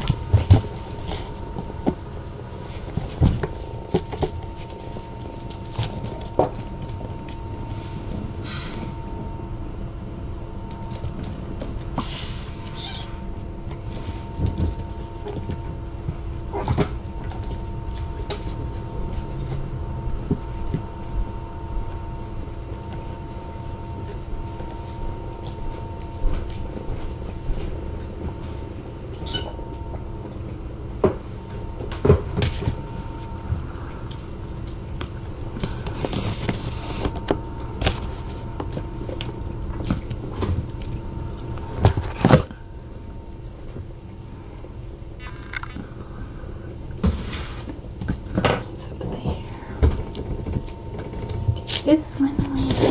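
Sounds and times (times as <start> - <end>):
kittens playing on floor: 0.0 - 9.3, 10.3 - 43.9, 44.6 - 52.9
room hum: 0.0 - 52.9.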